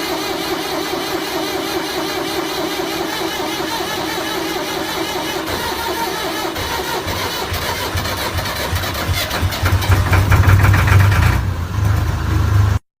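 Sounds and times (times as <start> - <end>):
electric fan rumbling and clattering: 0.0 - 12.8.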